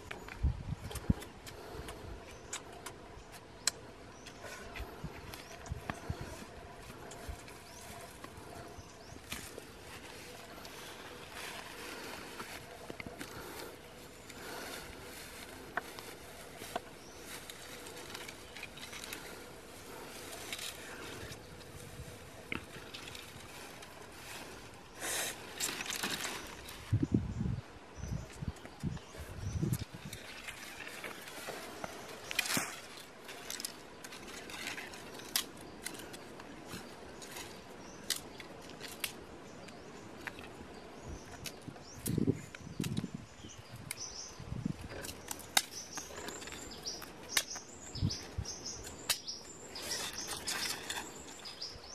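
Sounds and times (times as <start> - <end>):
dry grass and twigs rustling: 0.0 - 51.9
steady outdoor hiss: 0.0 - 51.9.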